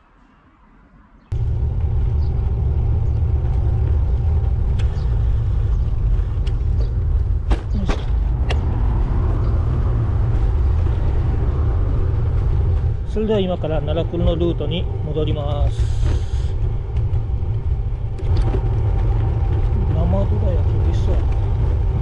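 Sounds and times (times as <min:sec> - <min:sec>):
wind and road rumble: 0:00.0 - 0:22.0.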